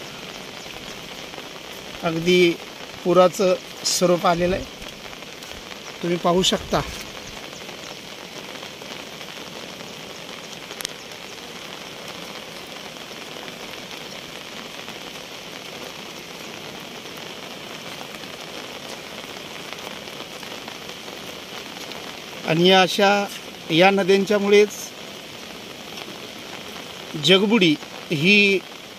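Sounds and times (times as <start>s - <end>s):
rain hissing: 0.0s - 28.9s
river rushing: 0.0s - 28.9s.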